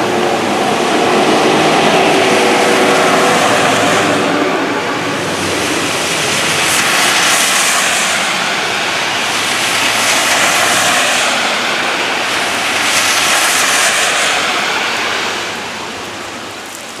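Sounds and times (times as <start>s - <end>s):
tyres hissing on wet road: 0.0s - 17.0s.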